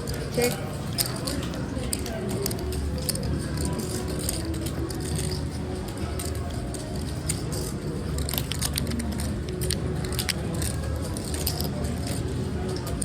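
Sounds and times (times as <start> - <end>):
clay poker chips clicking: 0.0 - 13.0
distant chatter: 0.0 - 13.0.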